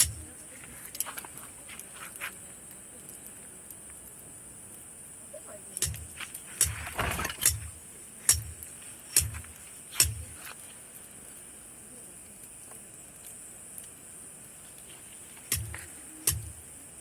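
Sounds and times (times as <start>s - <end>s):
night insects chirring: 0.0s - 17.0s.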